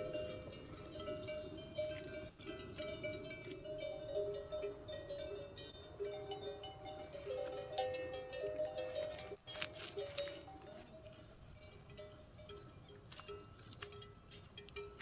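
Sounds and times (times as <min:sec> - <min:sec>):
livestock bells clanking: 0:00.0 - 0:15.0.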